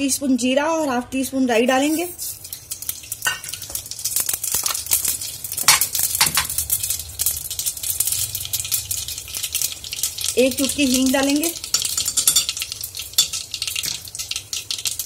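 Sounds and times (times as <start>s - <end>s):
seeds sizzling in hot oil: 1.6s - 15.0s.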